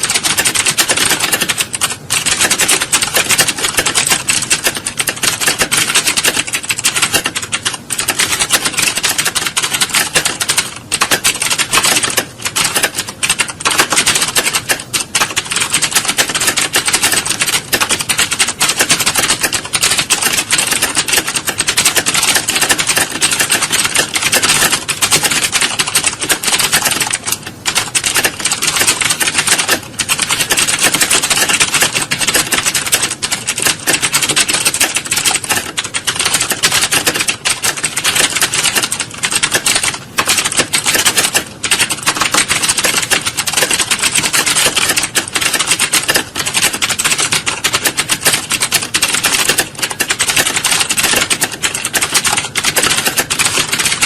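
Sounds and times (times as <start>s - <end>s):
fast typing on keyboards: 0.0s - 54.0s.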